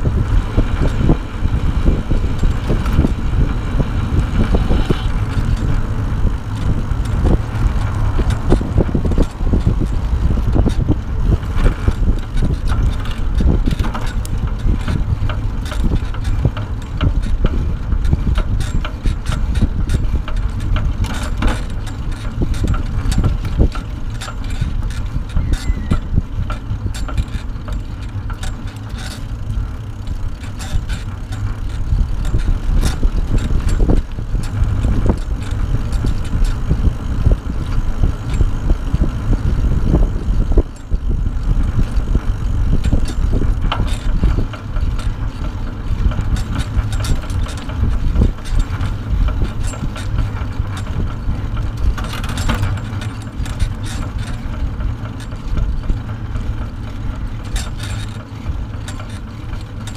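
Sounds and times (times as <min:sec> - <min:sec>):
trailer rattles and knocks: 0:00.0 - 0:59.9
trailer rolling on asphalt: 0:00.0 - 0:59.9
wind buffeting microphone: 0:00.0 - 0:59.9.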